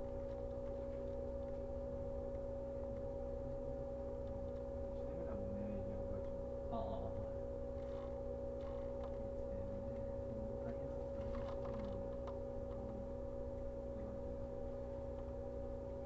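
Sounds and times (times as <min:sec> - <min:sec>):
faint ticks and clicks: 0:00.0 - 0:06.5, 0:07.2 - 0:16.0
electrical hum in train car: 0:00.0 - 0:16.0.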